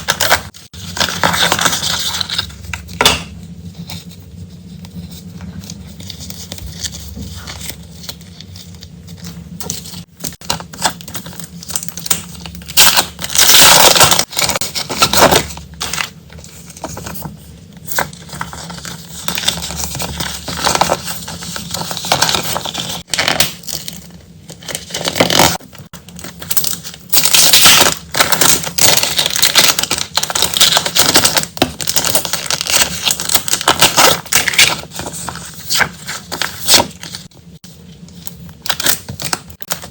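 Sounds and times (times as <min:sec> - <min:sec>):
packaging crinkling and tearing: 0:00.0 - 0:03.0, 0:05.6 - 0:37.3, 0:38.2 - 0:39.9.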